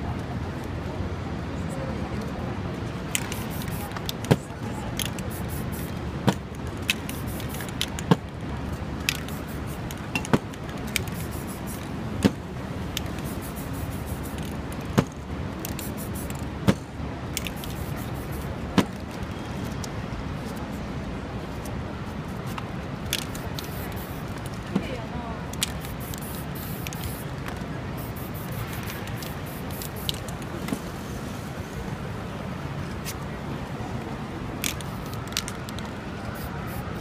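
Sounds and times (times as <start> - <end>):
low traffic rumble: 0.0 - 37.0.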